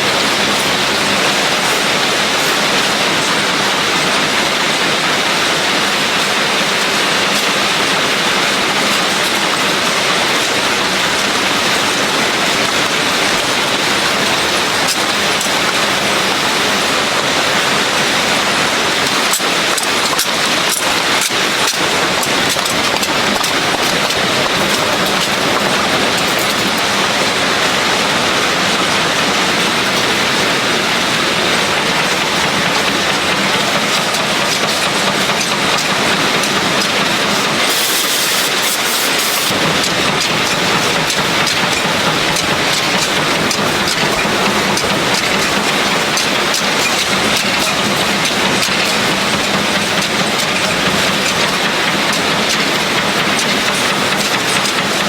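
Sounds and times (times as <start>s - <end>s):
factory machinery running: 0.0s - 55.0s.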